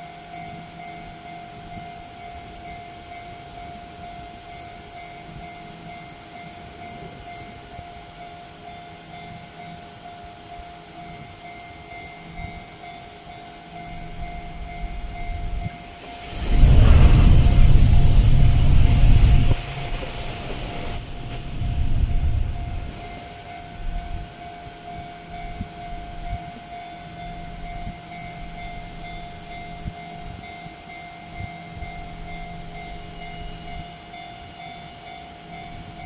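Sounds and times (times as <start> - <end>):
level crossing alarm ringing: 0.0 - 16.5, 22.4 - 36.0
train wheels rushing on rails: 0.0 - 36.0.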